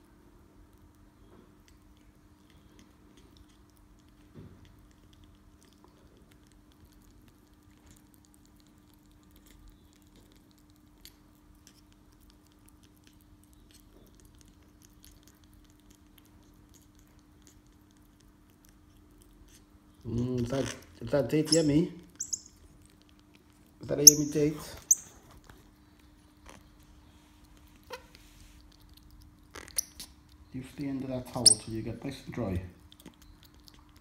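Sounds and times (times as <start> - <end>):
faint steady hum: 0.0 - 34.0
monkey chewing and nibbling: 0.6 - 31.6, 32.7 - 34.0.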